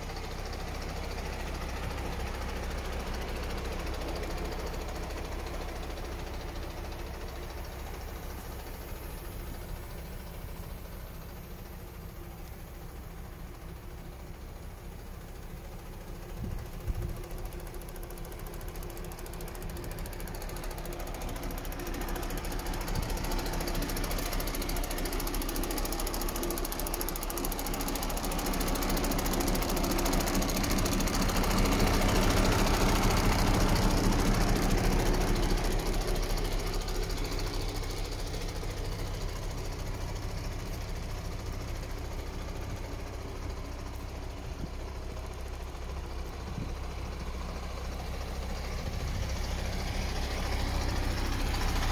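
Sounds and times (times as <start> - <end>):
diesel truck engine idling: 0.0 - 51.9.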